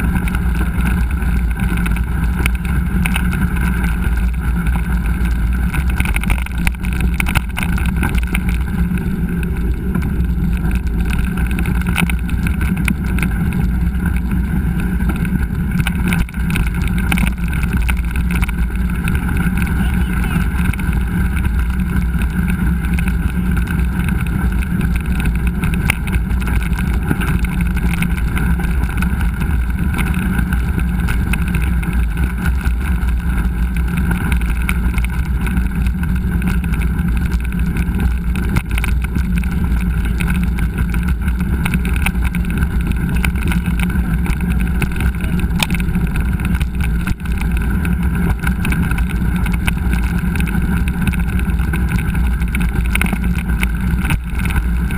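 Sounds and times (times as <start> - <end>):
small knocks and rattles: 0.0 - 19.8, 20.4 - 54.9
bike tyres rolling on trail: 0.0 - 54.9
wind rumble on microphone: 0.0 - 54.9.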